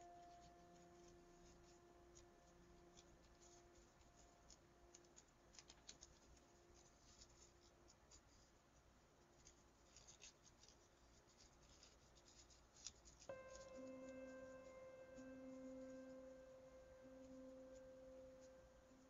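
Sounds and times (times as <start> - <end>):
paper crinkling and rustling: 0.1 - 8.6, 9.2 - 16.3.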